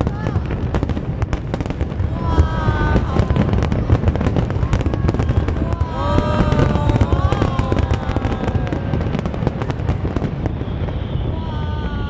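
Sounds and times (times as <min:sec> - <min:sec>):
low rumble of booms: 0:00.0 - 0:11.4
fireworks cracks and bangs: 0:00.0 - 0:12.0.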